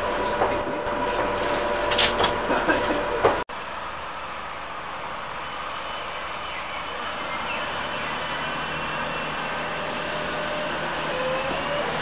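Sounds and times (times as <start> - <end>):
hum of a train at rest: 0.0 - 12.0.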